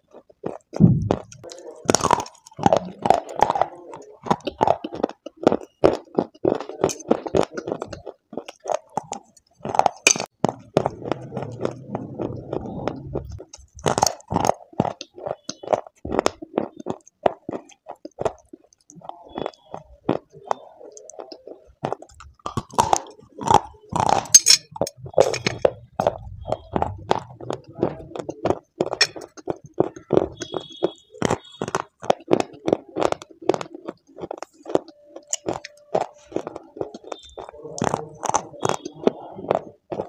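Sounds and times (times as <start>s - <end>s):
clay sticks being chewed: 0.0s - 40.0s.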